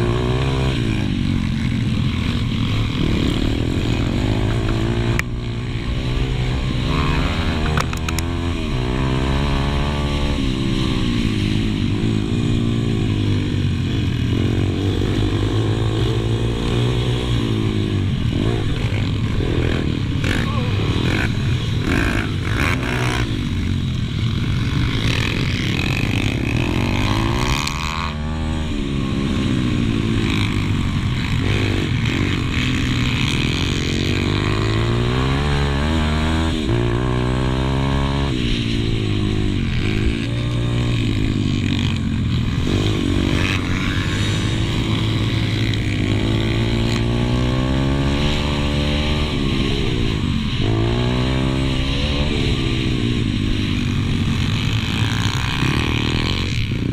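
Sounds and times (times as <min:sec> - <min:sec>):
motorbike engine revving: 0:00.0 - 0:56.9.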